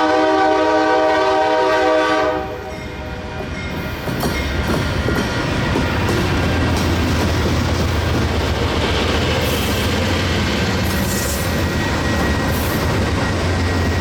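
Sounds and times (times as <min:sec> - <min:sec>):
freight train wheels rumbling on rails: 0:00.0 - 0:14.0.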